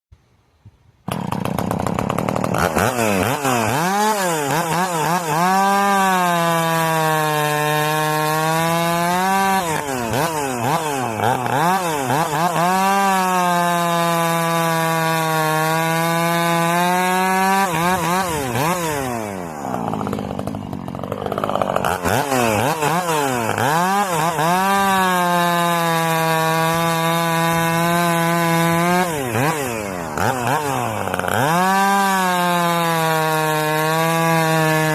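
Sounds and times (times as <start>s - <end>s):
chainsaw revving: 1.0s - 34.9s.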